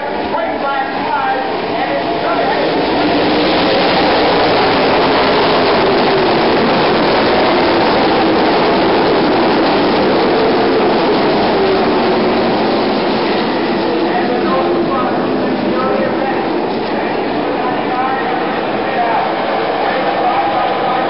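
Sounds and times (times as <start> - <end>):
stock car engines racing: 0.0 - 21.0.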